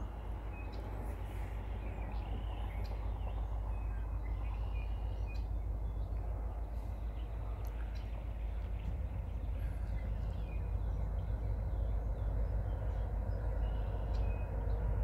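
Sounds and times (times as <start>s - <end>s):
steady low rumble: 0.0s - 15.0s
small birds chirping: 0.2s - 15.0s.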